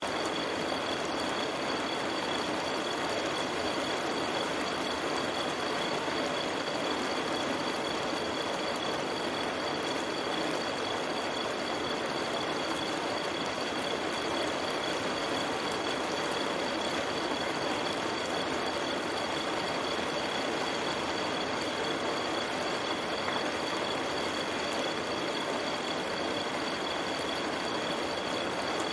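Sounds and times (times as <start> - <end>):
steady high-pitched tones: 0.0 - 28.9.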